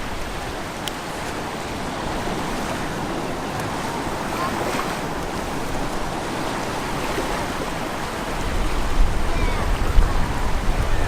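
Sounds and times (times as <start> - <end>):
surf washing on beach: 0.0 - 11.0.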